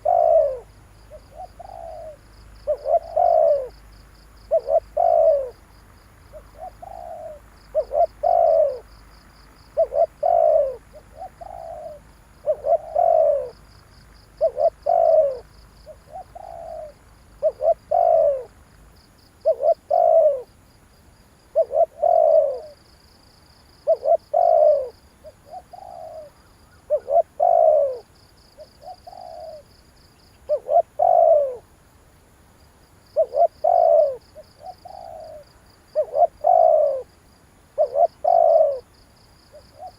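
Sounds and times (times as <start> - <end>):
dove cooing: 0.0 - 3.8, 4.4 - 18.6, 19.4 - 20.6, 21.5 - 22.9, 23.7 - 31.7, 33.1 - 39.9.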